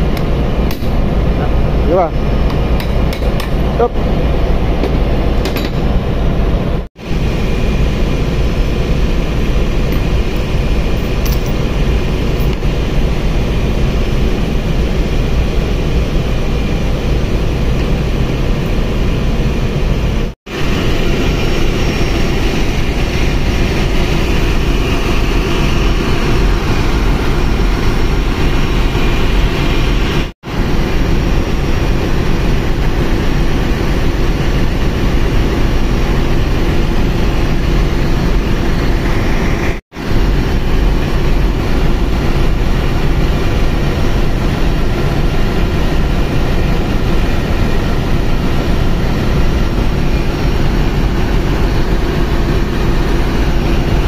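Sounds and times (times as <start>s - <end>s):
engine room machinery drone: 0.0s - 54.0s.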